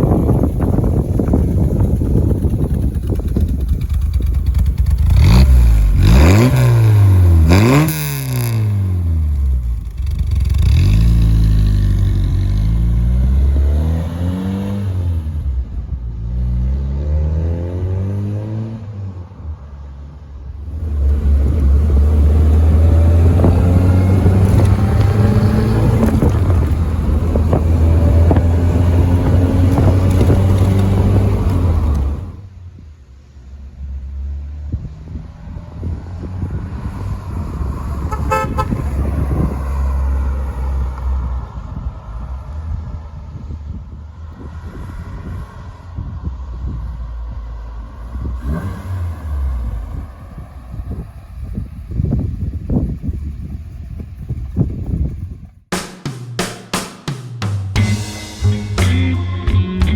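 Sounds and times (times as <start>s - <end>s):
car engine revving and cruising: 0.0s - 55.7s.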